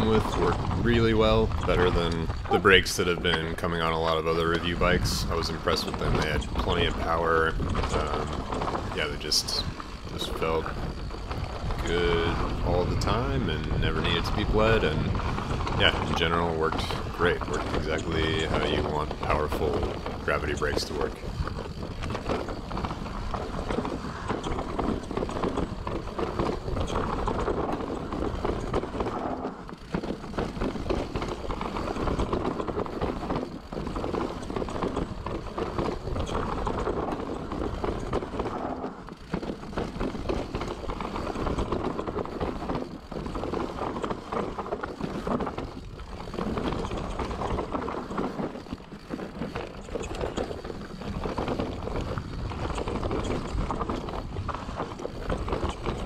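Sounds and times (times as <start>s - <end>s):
bike clatter and rattle: 0.0s - 56.0s
tyres rolling over dirt and rock: 0.0s - 56.0s.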